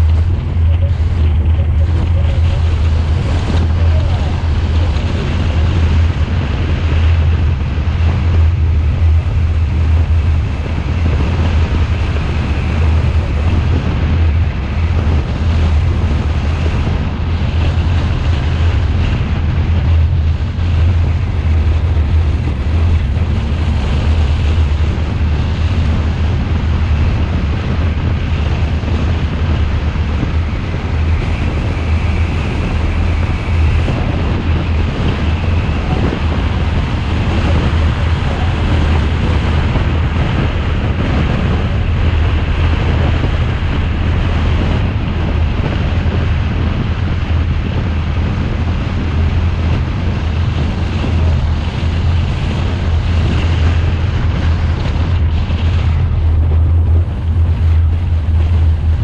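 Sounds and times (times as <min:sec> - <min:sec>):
tyre and road noise: 0:00.0 - 0:59.0
wind buffeting microphone: 0:00.0 - 0:59.0.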